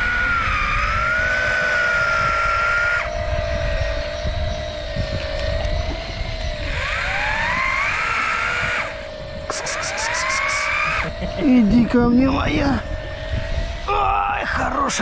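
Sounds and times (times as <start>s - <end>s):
fishing reel motors whining: 0.0s - 15.0s.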